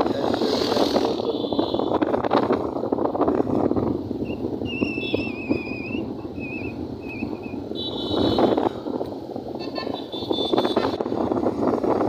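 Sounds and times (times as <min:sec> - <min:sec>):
vehicle road and engine noise: 0:00.0 - 0:12.0
wind buffeting microphone: 0:00.0 - 0:12.0.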